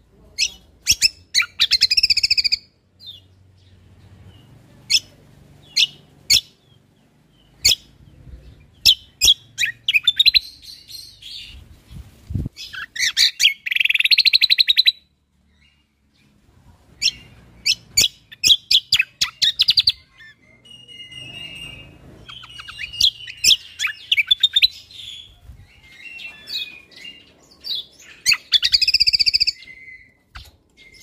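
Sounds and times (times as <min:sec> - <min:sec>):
songbird chirping and trilling: 0:00.0 - 0:31.0.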